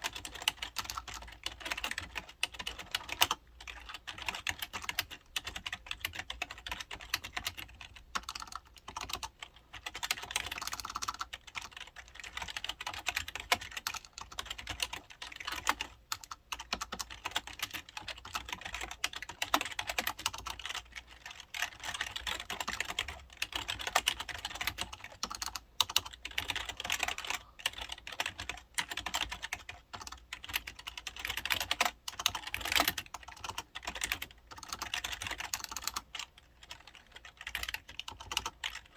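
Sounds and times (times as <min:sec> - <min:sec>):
soft keyboard typing: 0:00.0 - 0:38.9.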